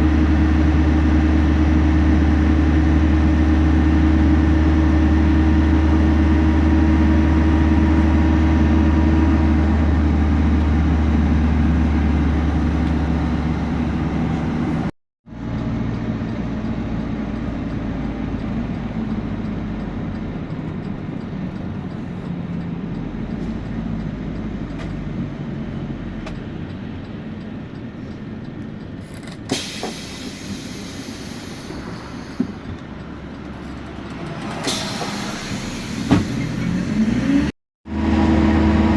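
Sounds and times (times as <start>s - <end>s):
bus engine drone: 0.0s - 38.9s.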